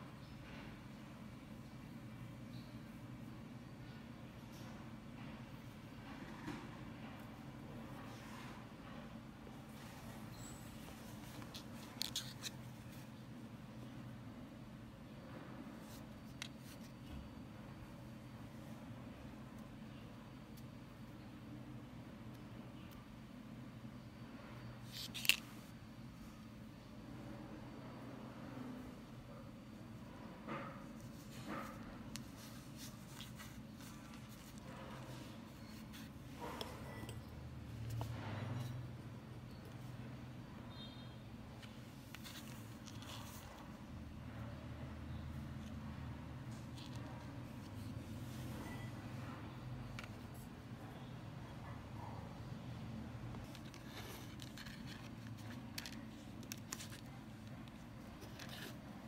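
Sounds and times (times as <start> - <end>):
faint low hum: 0.0 - 59.0.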